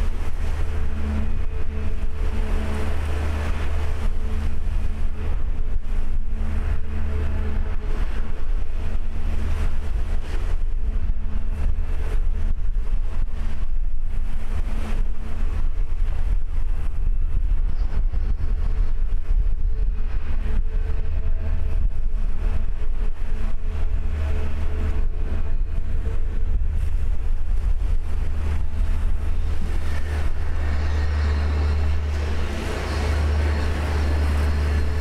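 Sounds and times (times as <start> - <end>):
dredger machinery rumbling: 0.0 - 35.0.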